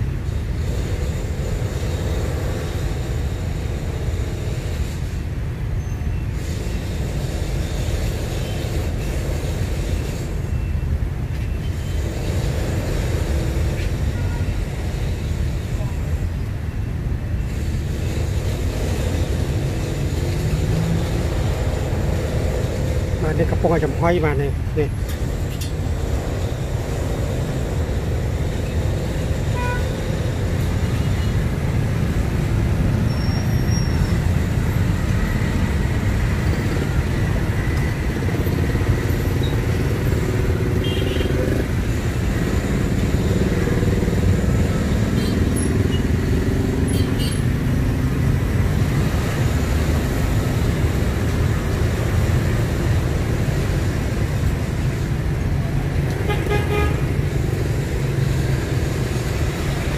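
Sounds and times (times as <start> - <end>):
motor vehicles passing: 0.0 - 5.6, 6.3 - 59.9
street traffic rumble: 0.0 - 59.9.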